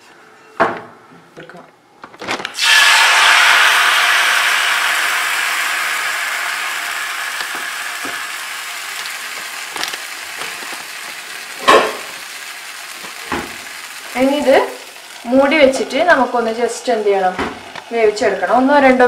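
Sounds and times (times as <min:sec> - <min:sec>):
batter sizzling on hot pan: 0:02.6 - 0:18.7.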